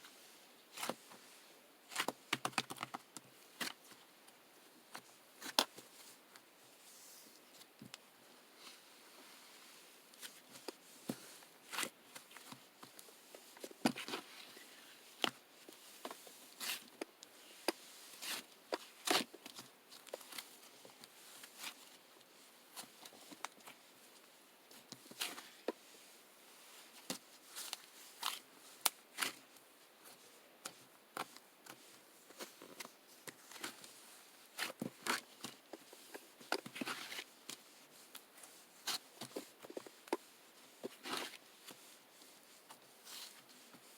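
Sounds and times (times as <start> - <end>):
rustles of handling: 4.7 - 43.9.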